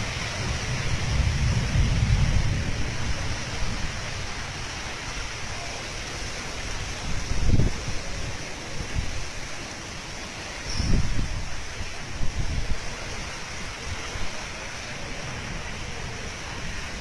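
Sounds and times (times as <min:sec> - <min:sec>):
wind buffeting the microphone: 0:00.0 - 0:09.6, 0:10.5 - 0:17.0
floodwater rushing: 0:00.0 - 0:17.0
wind: 0:00.0 - 0:17.0.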